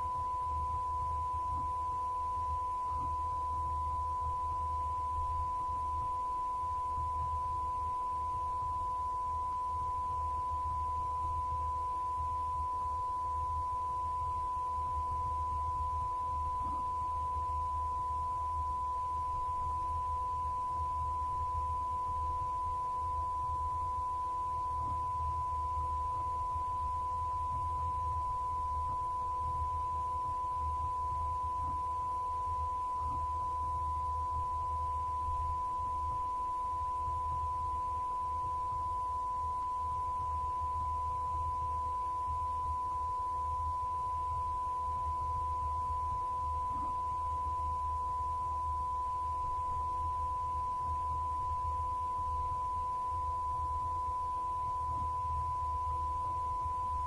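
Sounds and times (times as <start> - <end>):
faint low hum: 0.0 - 57.0
steady test tone: 0.0 - 57.0.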